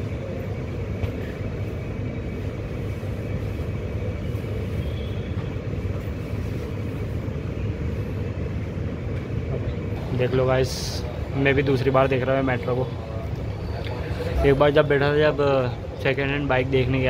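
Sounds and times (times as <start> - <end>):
train carriage rumble and hum: 0.0 - 17.0.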